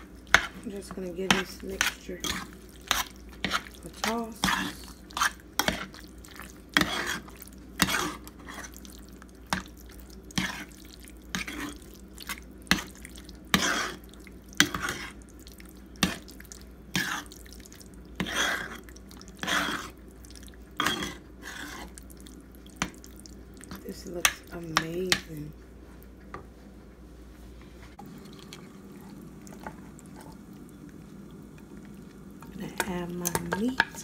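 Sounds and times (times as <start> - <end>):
spoon stirring thick sauce: 0.0 - 26.5, 31.6 - 34.0.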